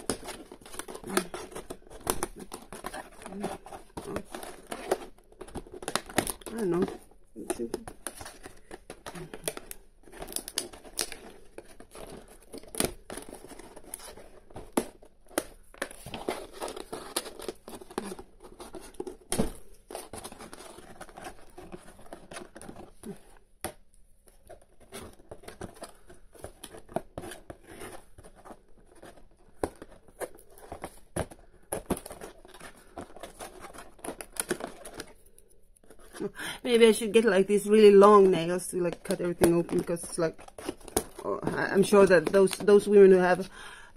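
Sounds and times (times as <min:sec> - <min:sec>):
tape tearing and crinkling: 0:00.0 - 0:23.4, 0:24.3 - 0:36.4, 0:39.0 - 0:42.9.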